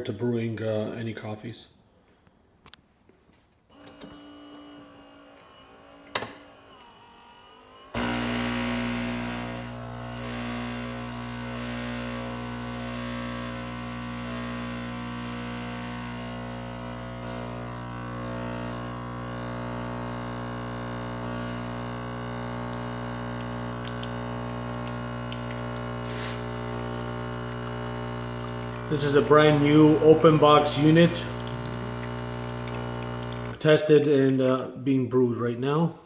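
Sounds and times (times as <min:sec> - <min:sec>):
espresso machine humming: 0:03.7 - 0:33.6.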